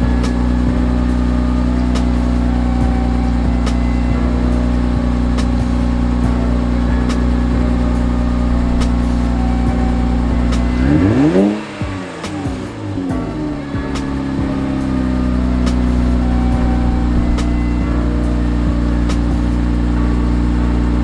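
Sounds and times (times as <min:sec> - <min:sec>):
car engine idling: 0:00.0 - 0:21.0
engine rev: 0:00.0 - 0:21.0.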